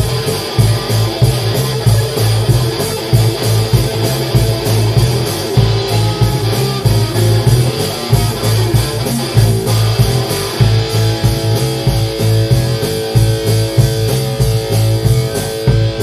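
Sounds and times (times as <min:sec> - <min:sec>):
drum kit beat: 0:00.0 - 0:16.0
electric bass: 0:00.0 - 0:16.0
electric guitar: 0:00.0 - 0:16.0.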